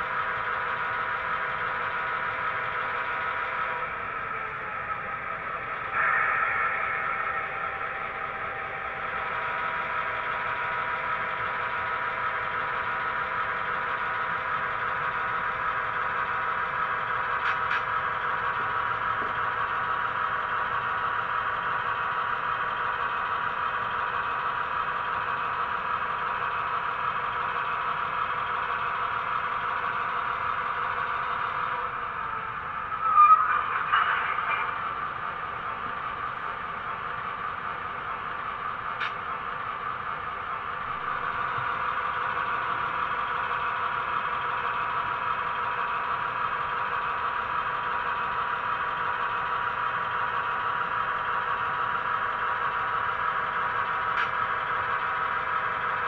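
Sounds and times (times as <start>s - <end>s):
model train diesel engine sound: 0.0s - 56.0s.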